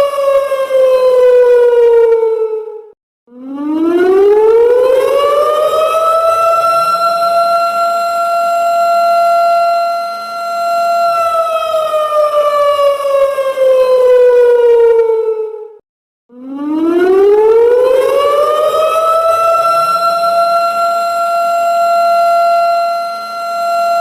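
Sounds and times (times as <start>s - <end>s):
loud siren: 0.0s - 24.0s.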